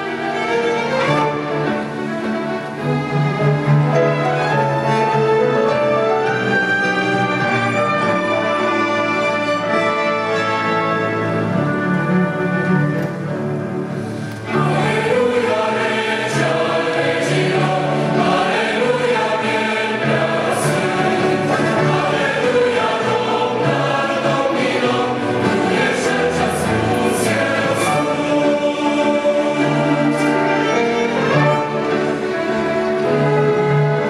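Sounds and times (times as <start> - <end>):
choir singing: 0.0 - 12.5, 13.6 - 34.0
instrumental accompaniment: 0.0 - 34.0.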